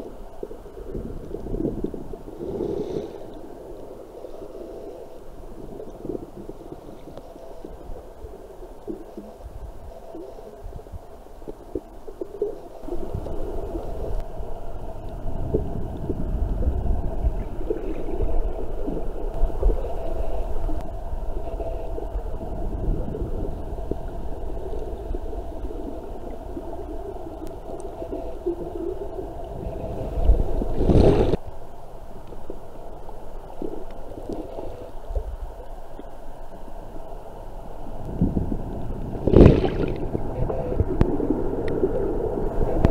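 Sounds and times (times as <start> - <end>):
underwater water rumbling: 0.0 - 42.9.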